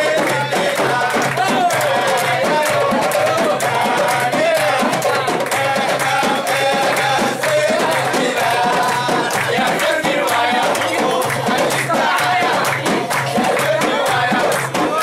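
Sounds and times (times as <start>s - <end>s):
lively music with singing: 0.0s - 15.0s
people clapping along: 0.0s - 15.0s.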